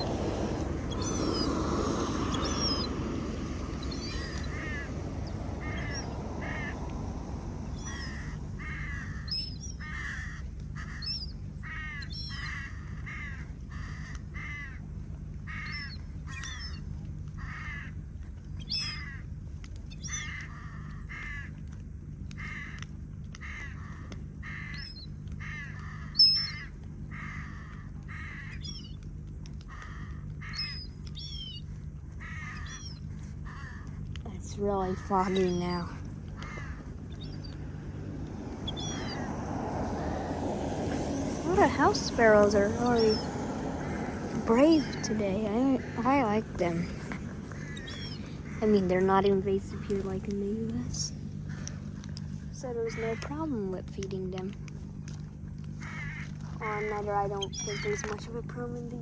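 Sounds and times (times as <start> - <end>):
crows cawing: 0.0 - 18.0, 18.6 - 19.3, 20.0 - 21.7, 22.3 - 29.0, 29.6 - 34.2, 34.8 - 50.0, 50.8 - 53.5, 55.7 - 58.2.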